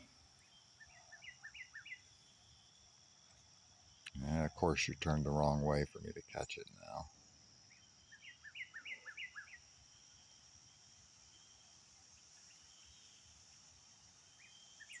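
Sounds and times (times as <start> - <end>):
high insect trill: 0.0 - 15.0
songbird chirping: 0.0 - 15.0.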